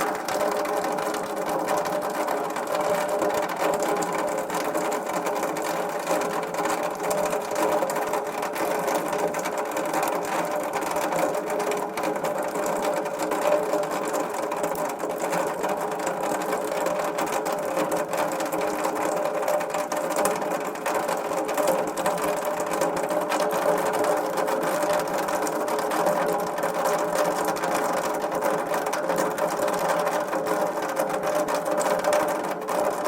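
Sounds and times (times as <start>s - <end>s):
water dripping down metal gutter pipe: 0.0s - 33.0s.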